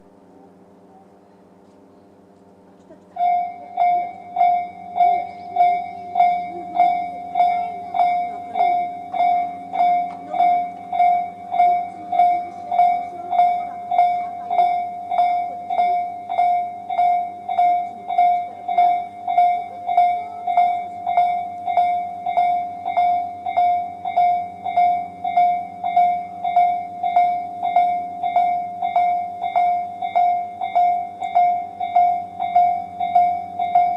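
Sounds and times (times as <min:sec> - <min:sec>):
level crossing warning bell: 0:00.0 - 0:01.6, 0:03.1 - 0:33.9.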